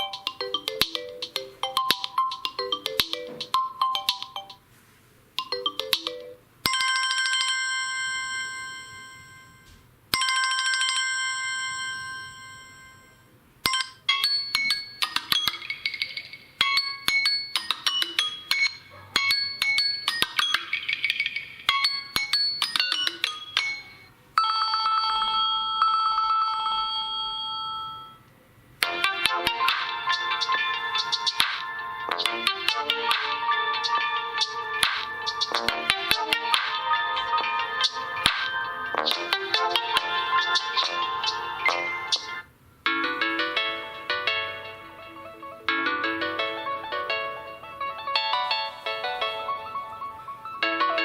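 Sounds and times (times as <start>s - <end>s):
phone ringtones: 0.0s - 4.6s, 5.4s - 28.2s, 28.8s - 44.2s.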